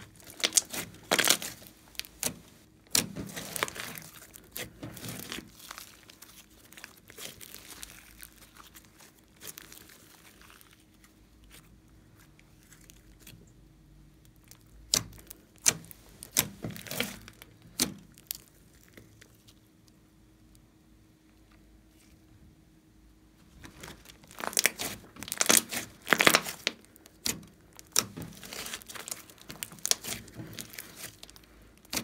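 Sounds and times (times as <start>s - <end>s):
slime popping and crackling: 0.0s - 13.5s, 14.1s - 19.6s, 23.7s - 32.0s.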